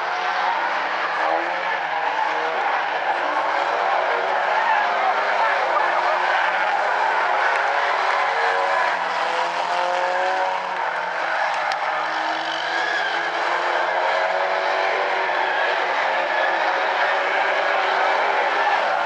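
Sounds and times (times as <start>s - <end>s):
race car engines accelerating: 0.0s - 19.0s.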